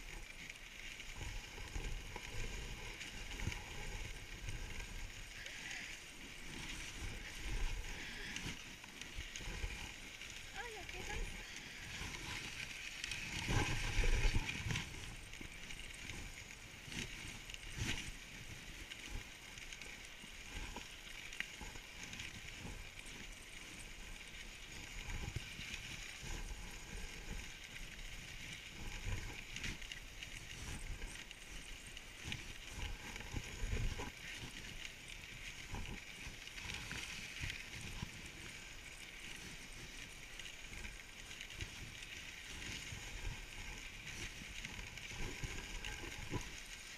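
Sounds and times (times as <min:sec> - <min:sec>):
sled runners hissing on snow: 0:00.0 - 0:46.9.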